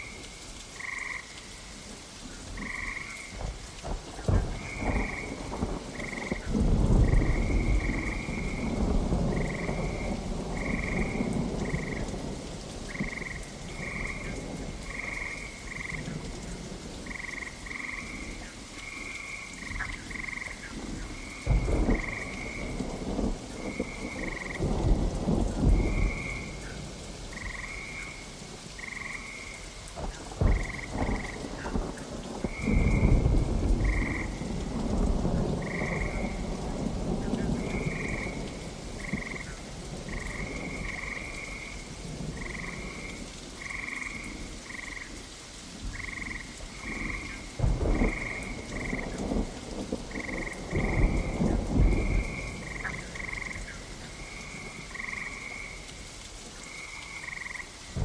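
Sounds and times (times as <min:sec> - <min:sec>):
frogs croaking: 0:00.0 - 0:01.8, 0:02.4 - 0:58.0
steady rain: 0:00.0 - 0:58.0
thunder rumbling: 0:02.6 - 0:44.9, 0:45.7 - 0:55.8.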